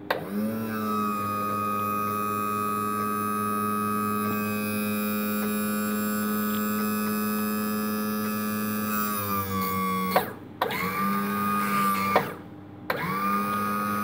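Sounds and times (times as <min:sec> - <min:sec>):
electric trim motor and pump running: 0:00.1 - 0:14.0.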